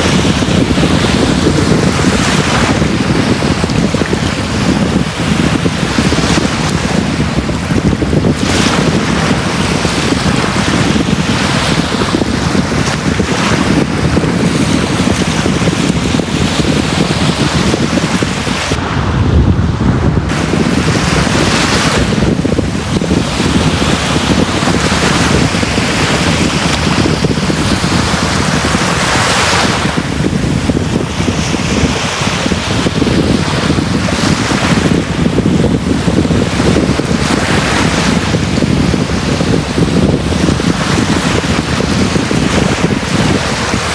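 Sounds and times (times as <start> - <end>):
sea waves breaking on beach: 0.0 - 19.2, 20.3 - 43.9
wind rumble on microphone: 0.0 - 43.9.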